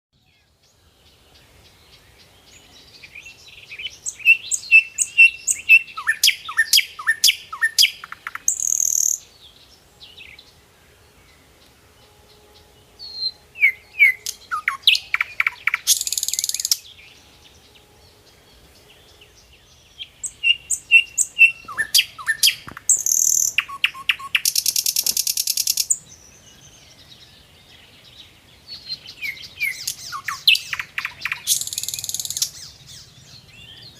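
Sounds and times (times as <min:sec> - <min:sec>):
songbird singing: 0:00.1 - 0:33.9.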